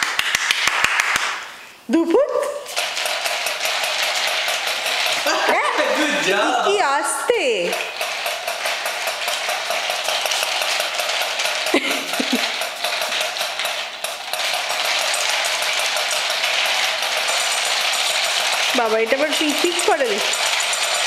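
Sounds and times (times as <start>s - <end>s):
toy motor whirring clatter: 2.7s - 21.0s.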